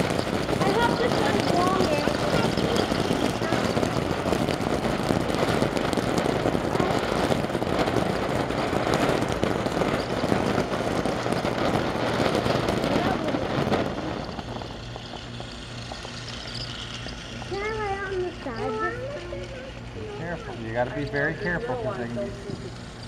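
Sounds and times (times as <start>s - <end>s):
firework fountain hissing: 0.0s - 23.0s.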